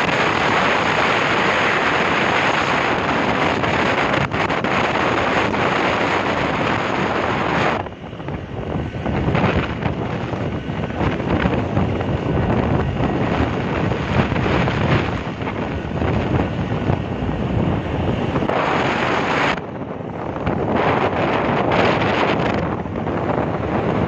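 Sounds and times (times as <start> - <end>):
road and engine noise: 0.0 - 24.0
wind buffeting microphone: 0.0 - 24.0.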